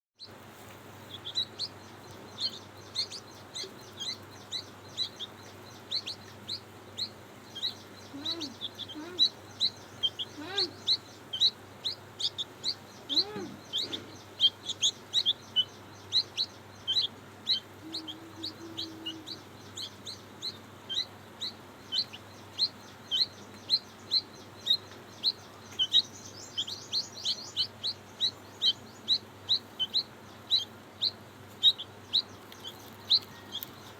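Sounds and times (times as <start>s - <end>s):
baby chicks cheeping: 0.2s - 33.9s.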